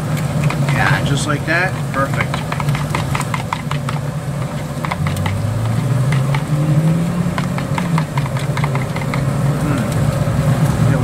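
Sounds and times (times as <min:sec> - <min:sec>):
low engine drone: 0:00.0 - 0:11.0
spoon scraping plastic container: 0:00.4 - 0:09.3.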